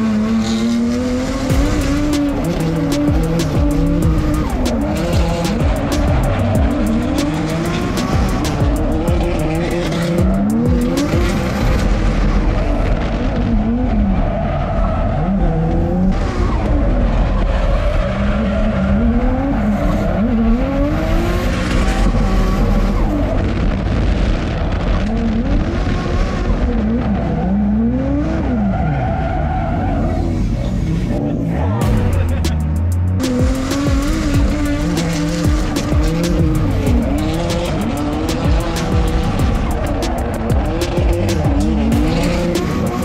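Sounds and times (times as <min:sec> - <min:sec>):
tyres squealing and skidding: 0:00.0 - 0:23.7, 0:26.9 - 0:43.0
car engine revving hard: 0:00.0 - 0:43.0.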